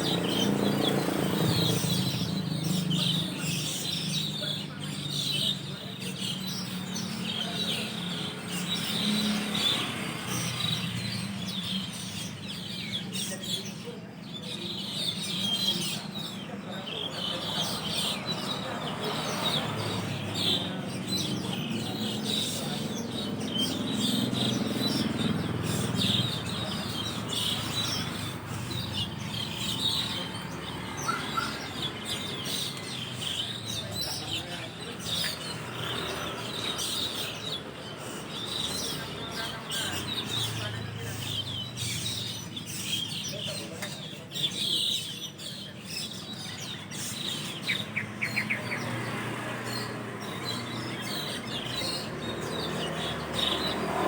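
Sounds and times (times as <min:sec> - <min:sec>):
flock of starlings chattering: 0:00.0 - 0:54.0.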